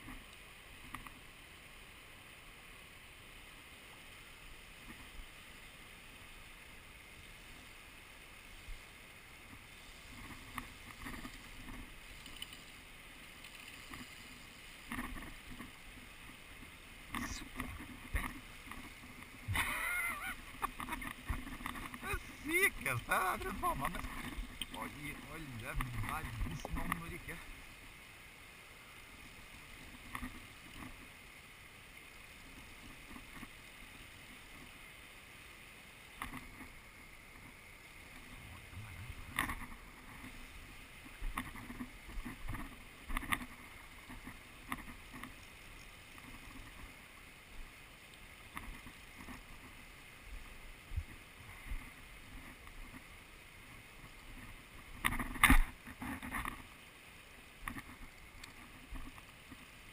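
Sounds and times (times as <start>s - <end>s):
river water lapping: 0.0s - 59.9s.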